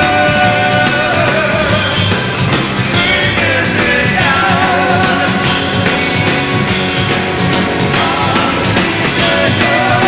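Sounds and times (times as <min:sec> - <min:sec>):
electric guitar melody: 0:00.0 - 0:10.0
hard rock band playing live: 0:00.0 - 0:10.0.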